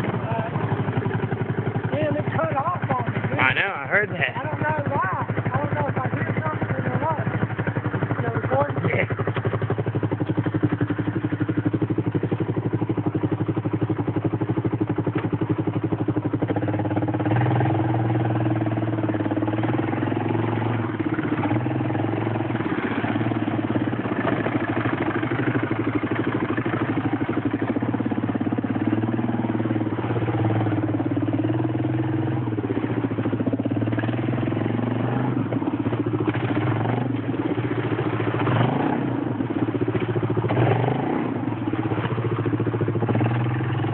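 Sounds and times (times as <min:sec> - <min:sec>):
atv engine revving: 0:00.0 - 0:43.9.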